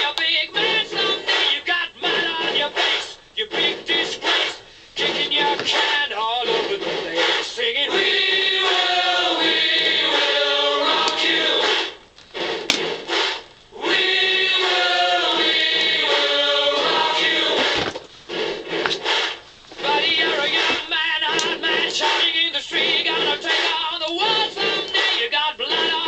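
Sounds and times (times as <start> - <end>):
choir singing held chords: 0.0 - 12.0, 13.7 - 19.2, 19.8 - 26.0.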